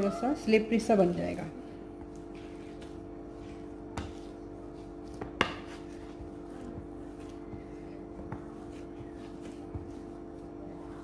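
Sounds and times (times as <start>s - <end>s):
hands kneading dough: 0.0s - 11.0s
steady hum: 0.0s - 11.0s.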